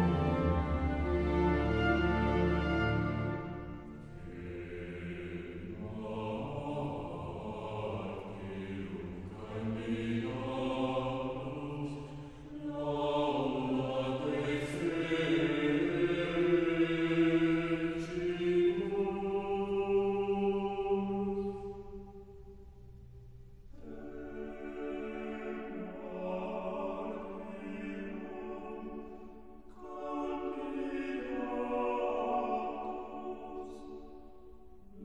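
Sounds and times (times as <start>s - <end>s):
choir chanting: 0.0s - 22.7s, 23.7s - 35.0s.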